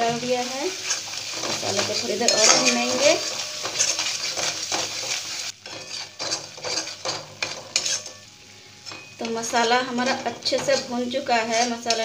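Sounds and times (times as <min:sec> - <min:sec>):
metal spatula scraping a pan: 0:00.0 - 0:12.0
paste sizzling in oil: 0:00.0 - 0:12.0.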